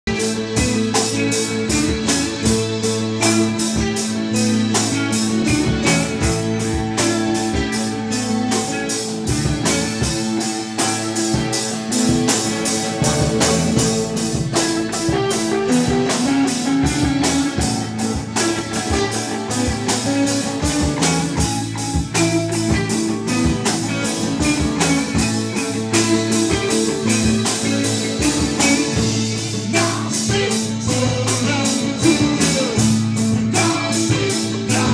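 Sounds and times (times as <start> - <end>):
rock band guitars: 0.0 - 34.9
drum kit beat: 0.1 - 34.9.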